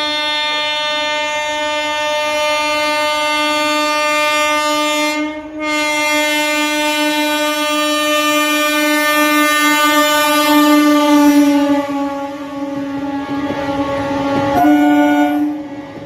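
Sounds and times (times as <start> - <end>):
train horn blast: 0.0 - 15.8.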